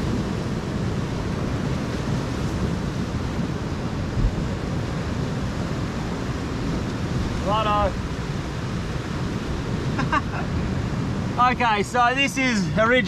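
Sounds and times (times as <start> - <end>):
surf on rocky shore: 0.0 - 13.0
wind buffeting microphone: 0.0 - 13.0.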